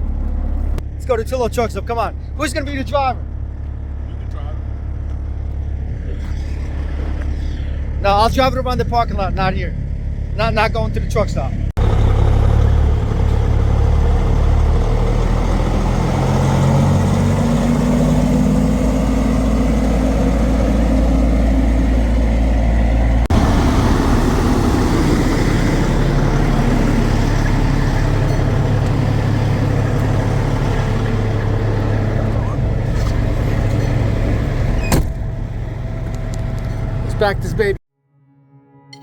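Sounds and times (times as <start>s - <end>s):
truck engine pulling away: 0.0s - 1.0s, 1.9s - 37.8s.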